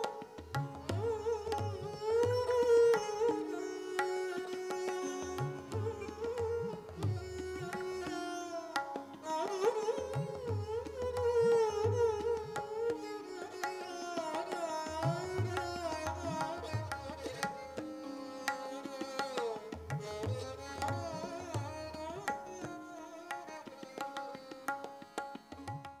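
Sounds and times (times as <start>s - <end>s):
tabla: 0.0s - 26.0s.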